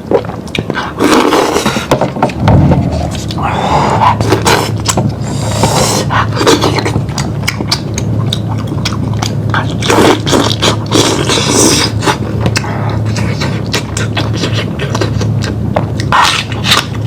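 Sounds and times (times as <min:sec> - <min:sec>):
biting and chewing meat: 0:00.0 - 0:17.0
low hum: 0:00.0 - 0:17.0.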